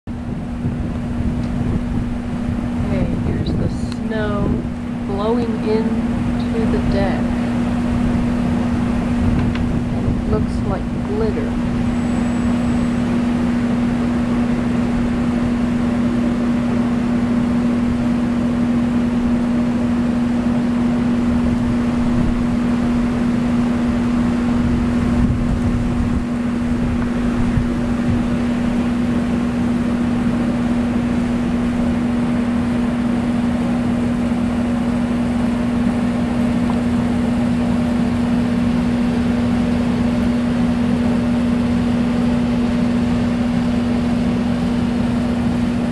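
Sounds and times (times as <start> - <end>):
steady machine hum: 0.1 - 45.9.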